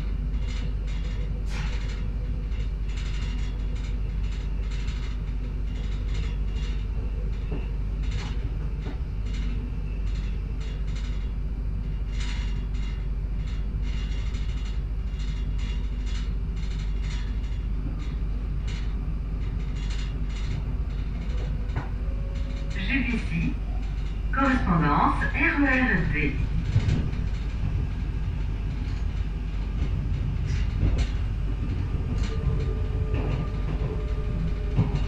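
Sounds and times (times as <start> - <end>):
train rumble with hum: 0.0 - 35.0.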